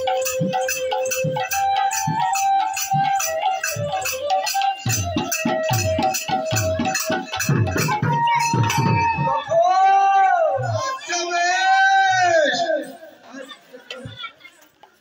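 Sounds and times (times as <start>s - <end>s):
shawm melody: 0.0s - 14.3s.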